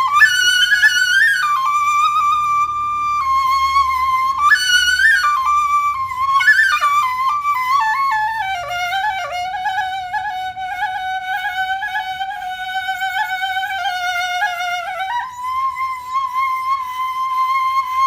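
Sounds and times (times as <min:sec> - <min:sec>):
flute melody with trills: 0:00.0 - 0:18.0.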